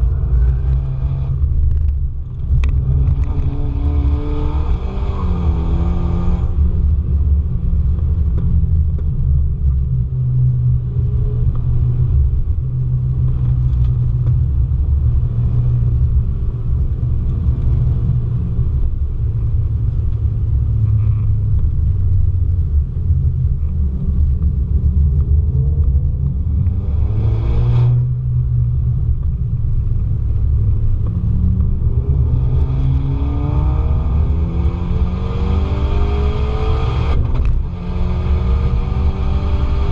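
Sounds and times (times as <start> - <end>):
car engine rumbling and revving: 0.0 - 39.9.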